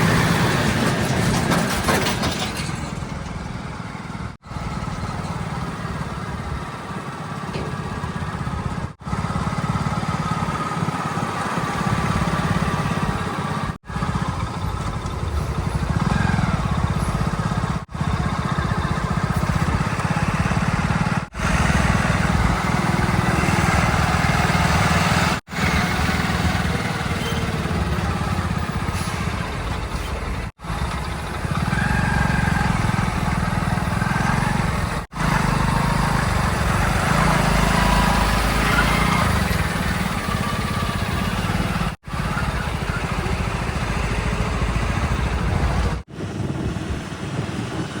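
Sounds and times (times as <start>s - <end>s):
heavy diesel engines labouring: 0.0s - 48.0s.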